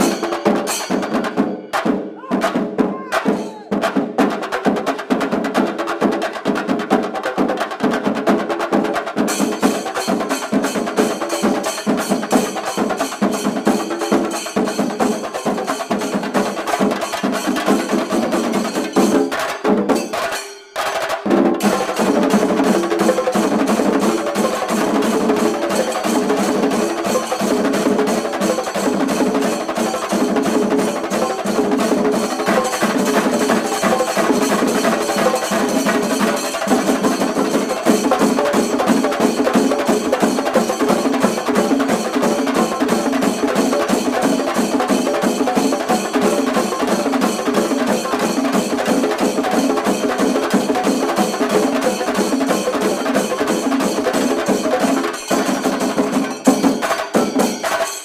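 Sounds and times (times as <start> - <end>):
fast dense drumming: 0.0 - 58.0.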